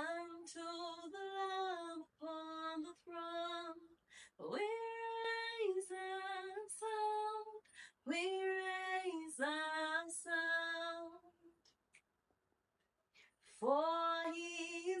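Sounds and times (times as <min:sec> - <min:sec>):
woman singing unaccompanied: 0:00.0 - 0:11.3, 0:13.6 - 0:15.0.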